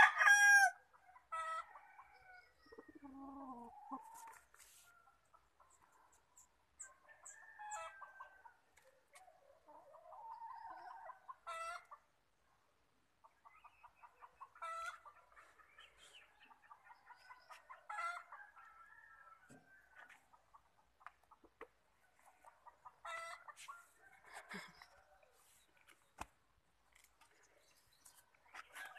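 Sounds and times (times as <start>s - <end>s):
chickens clucking: 0.9s - 26.3s.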